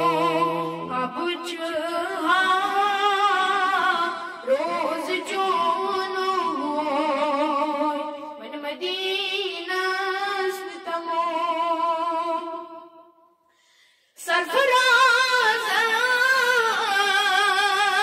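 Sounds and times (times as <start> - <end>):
boy singing into a microphone: 0.0 - 12.8, 14.2 - 18.0.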